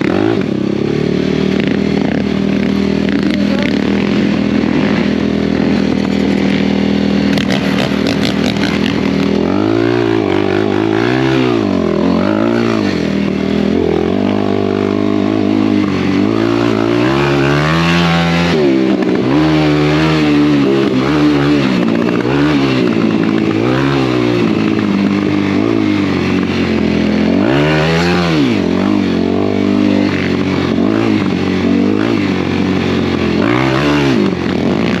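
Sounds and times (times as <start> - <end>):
vehicle engine idling and revving: 0.0 - 35.0.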